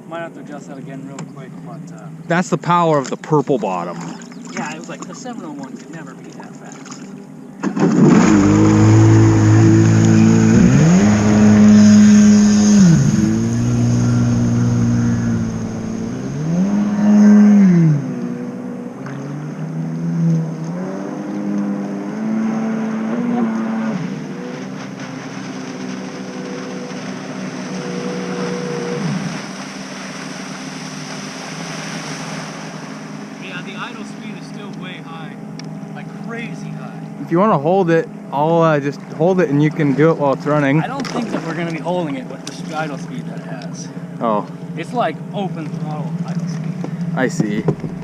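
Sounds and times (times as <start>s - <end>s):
jet ski engine revving: 0.0s - 48.0s.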